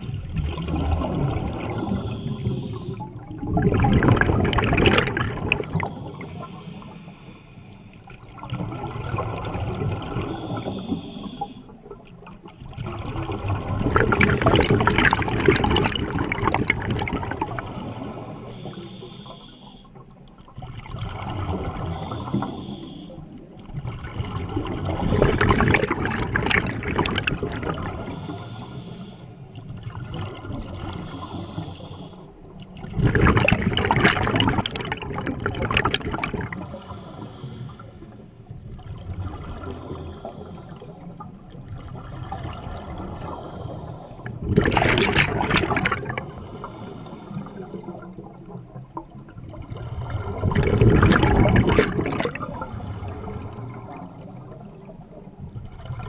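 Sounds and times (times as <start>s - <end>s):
diver exhaling bubbles underwater: 0.0s - 7.0s, 8.1s - 12.0s, 12.6s - 18.8s, 20.5s - 22.9s, 23.6s - 28.5s, 29.6s - 37.9s, 38.6s - 56.0s.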